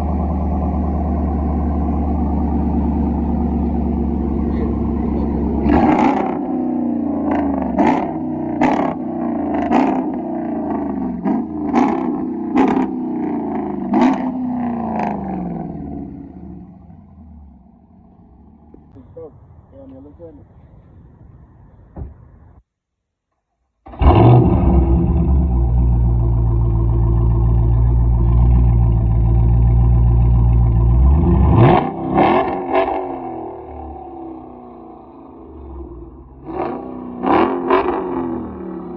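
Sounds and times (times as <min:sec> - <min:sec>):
car engine revving: 0:00.0 - 0:19.1, 0:23.9 - 0:38.9.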